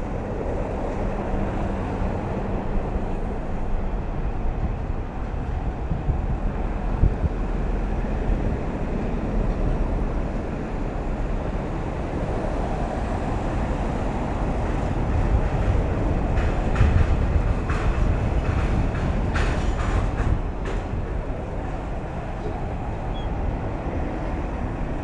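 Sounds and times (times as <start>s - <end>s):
vehicle driving on highway: 0.0s - 25.0s.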